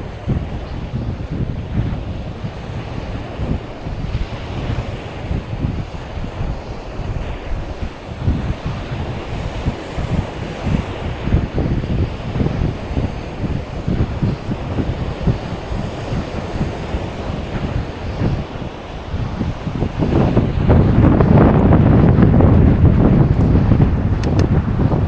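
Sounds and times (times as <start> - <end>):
surf washing on beach: 0.0 - 25.0
wind buffeting microphone: 0.0 - 25.0.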